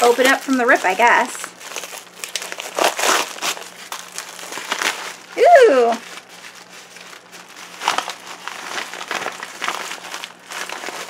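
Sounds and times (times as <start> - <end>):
mailing bag crinkling and rustling: 0.0 - 11.0.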